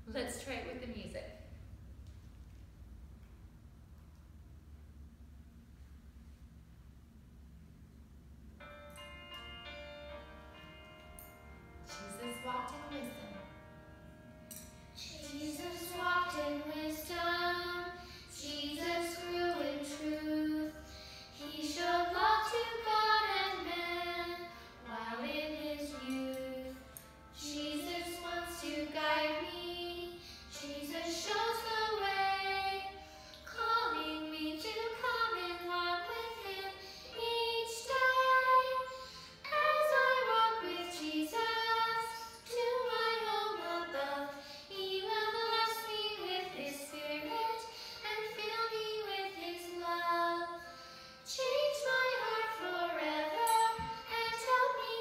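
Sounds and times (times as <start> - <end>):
recorded musical accompaniment: 8.6 - 55.0.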